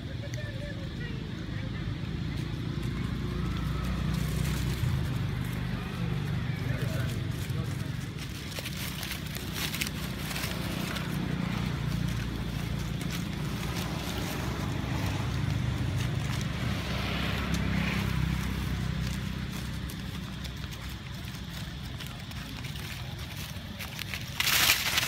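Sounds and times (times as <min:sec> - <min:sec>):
faint crackles: 0:02.1 - 0:25.0.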